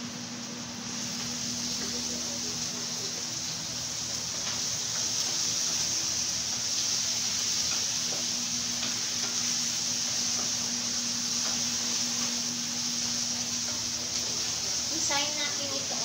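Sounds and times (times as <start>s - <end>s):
chicken frying in hot oil: 0.0s - 16.0s.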